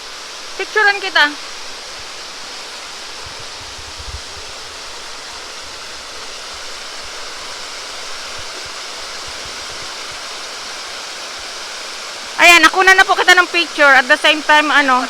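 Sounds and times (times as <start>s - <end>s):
waterfall rushing into a pool: 0.0s - 15.0s.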